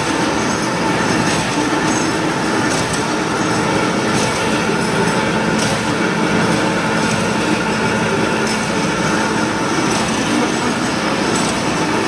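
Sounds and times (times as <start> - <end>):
machine mechanical whirr: 0.0 - 12.0.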